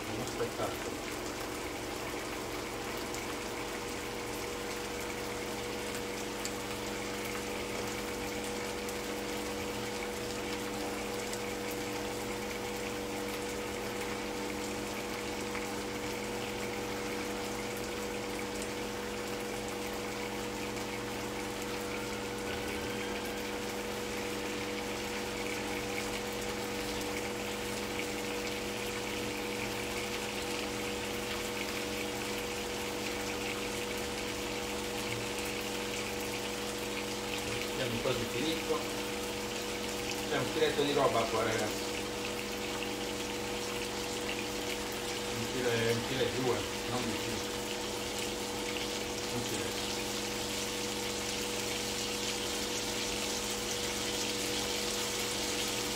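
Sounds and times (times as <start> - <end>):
onions frying in a pan: 0.0 - 55.9
steady mechanical hum: 0.0 - 55.9.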